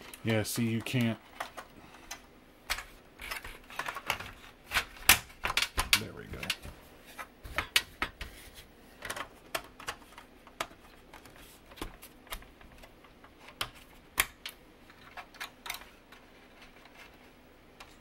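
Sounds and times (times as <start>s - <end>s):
clicks and knocks of computer parts: 0.0s - 6.8s, 7.4s - 8.4s, 9.0s - 17.2s.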